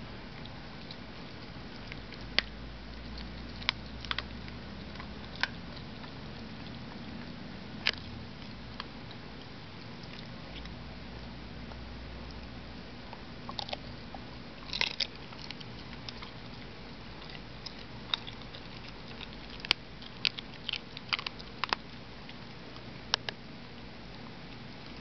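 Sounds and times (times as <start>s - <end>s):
dog chewing bone crunching: 0.2s - 10.9s, 13.1s - 23.9s.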